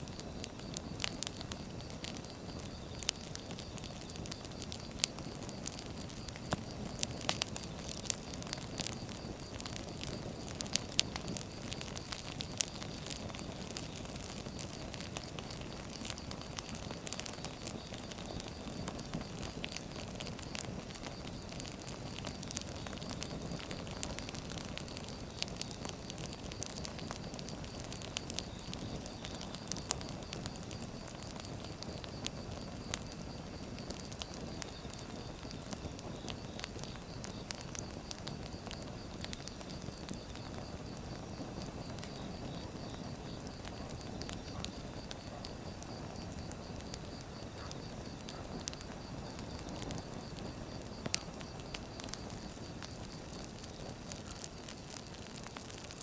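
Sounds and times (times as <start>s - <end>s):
flames rushing: 0.0s - 56.0s
logs crackling and popping: 0.0s - 56.0s.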